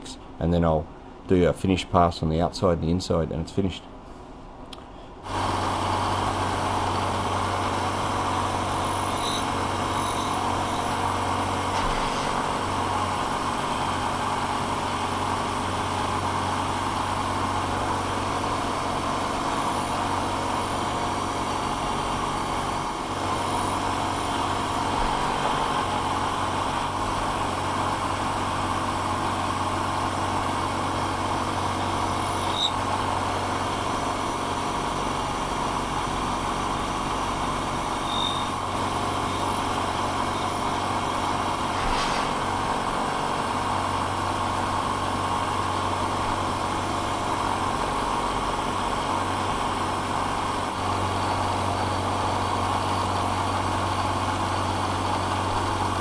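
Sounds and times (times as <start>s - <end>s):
end mill cutting brass: 5.3s - 56.0s
milling machine motor hum: 5.3s - 56.0s.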